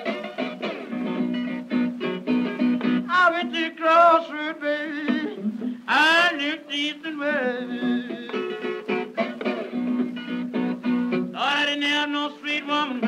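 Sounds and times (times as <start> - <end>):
song with guitar and singing: 0.0 - 13.0.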